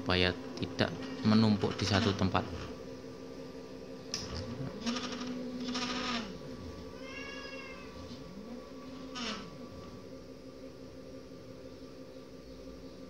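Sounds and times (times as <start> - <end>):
stepper motors whining: 0.0 - 10.9
steady motor hum: 0.0 - 13.0.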